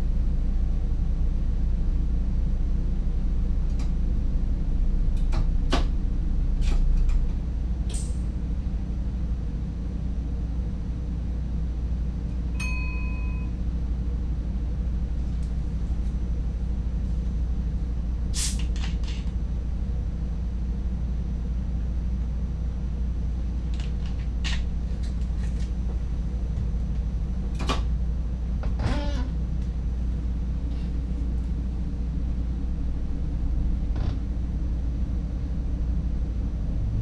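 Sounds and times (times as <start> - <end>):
electric train rumbling on track: 0.0 - 37.0.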